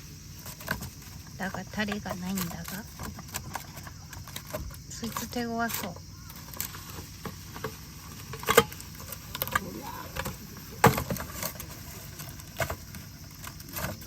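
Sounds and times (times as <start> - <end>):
camp utensils and dishes clinking: 0.0 - 14.0.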